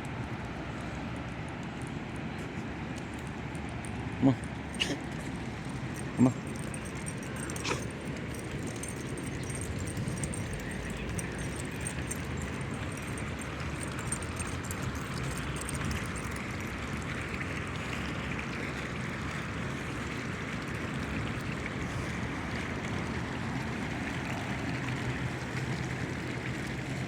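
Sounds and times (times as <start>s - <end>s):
rushing outdoor background noise: 0.0s - 27.0s.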